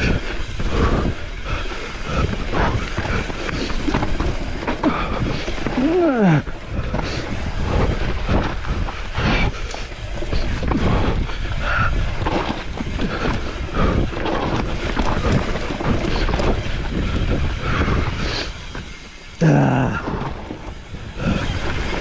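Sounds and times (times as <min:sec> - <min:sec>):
mountain bike rattling and knocking: 0:00.0 - 0:22.0
tyres rumbling: 0:00.0 - 0:22.0.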